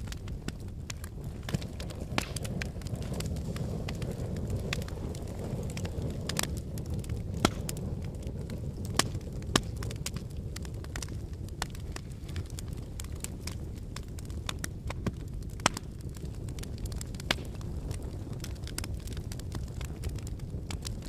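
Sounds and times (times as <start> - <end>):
fire snaps and pops: 0.0 - 21.0
wood fire crackling: 0.0 - 21.0.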